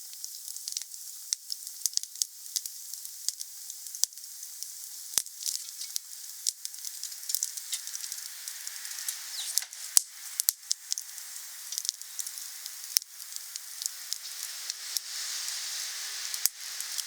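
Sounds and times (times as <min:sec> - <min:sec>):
campfire crackling: 0:00.3 - 0:17.0.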